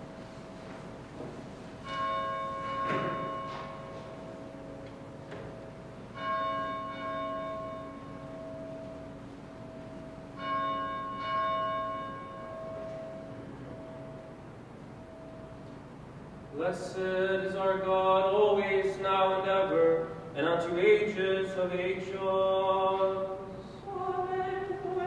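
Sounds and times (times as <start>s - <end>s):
church bell ringing: 0.0s - 25.0s.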